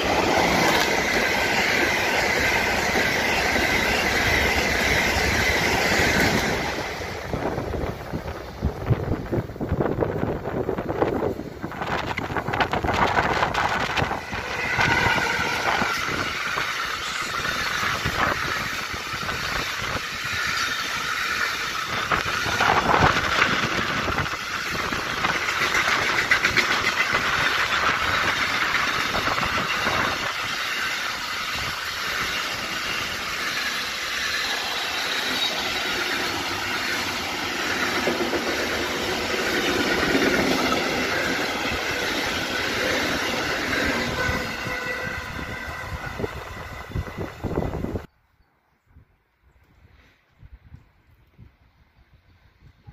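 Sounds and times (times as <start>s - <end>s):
wheels clicking on rails: 0.0s - 45.0s
freight train passing: 0.0s - 52.9s.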